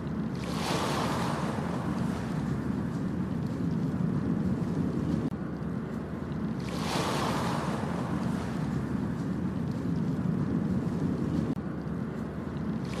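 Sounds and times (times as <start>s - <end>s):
ocean waves washing onto beach: 0.0s - 13.0s
wind rumble on microphone: 0.0s - 13.0s.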